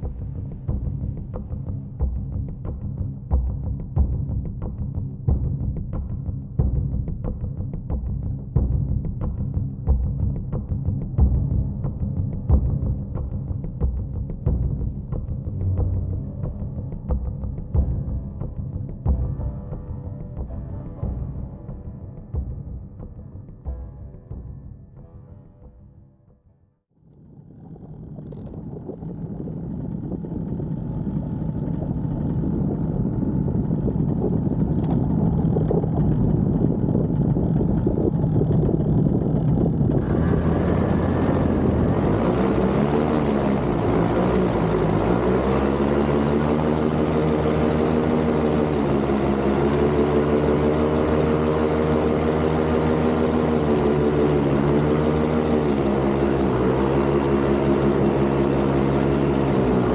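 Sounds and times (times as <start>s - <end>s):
paramotor engine and propeller: 0.0s - 21.4s, 26.9s - 59.9s.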